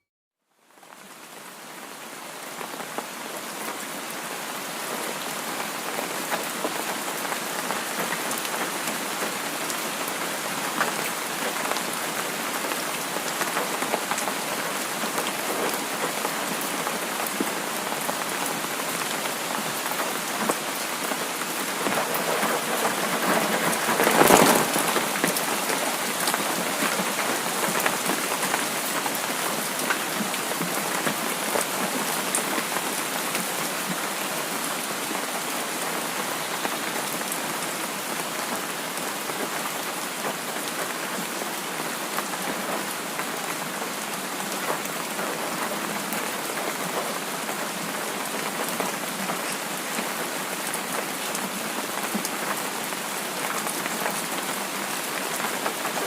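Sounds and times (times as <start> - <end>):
steady rain falling: 0.4 - 56.0.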